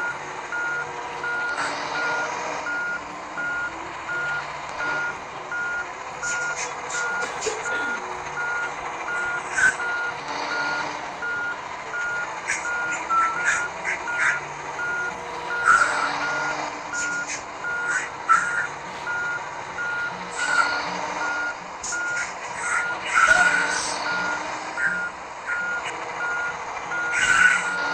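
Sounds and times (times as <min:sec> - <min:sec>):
diesel engine running: 0:00.0 - 0:27.9
reversing alarm beeping: 0:00.0 - 0:27.9.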